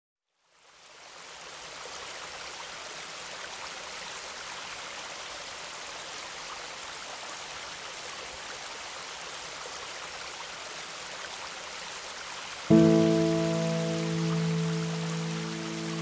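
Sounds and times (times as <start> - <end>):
stream water rushing: 1.2 - 16.0.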